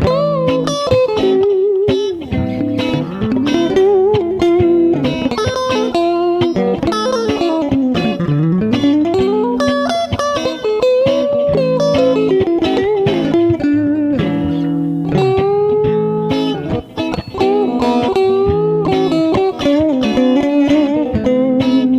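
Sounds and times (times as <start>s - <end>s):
clean electric guitar melody: 0.0s - 21.9s.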